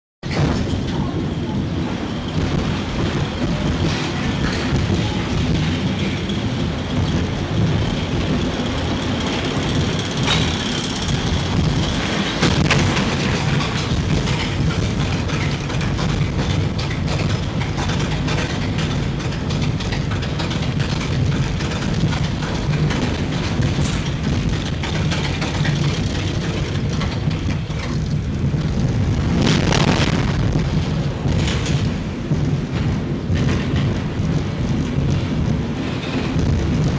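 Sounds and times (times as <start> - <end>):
roller coaster rumble: 0.2 - 36.9.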